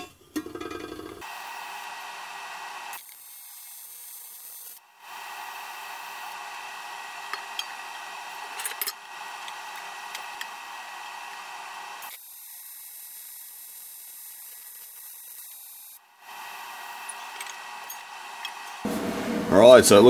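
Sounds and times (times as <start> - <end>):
welding arc buzzing hiss: 1.2 - 19.8.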